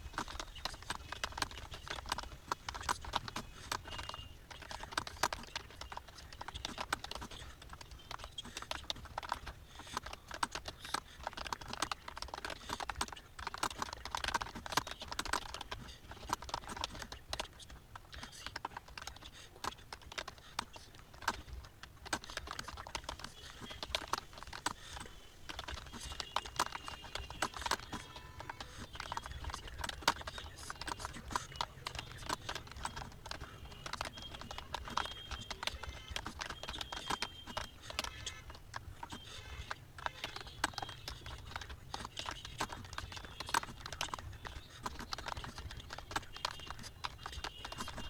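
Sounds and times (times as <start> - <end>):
fast keyboard typing: 0.0 - 48.0.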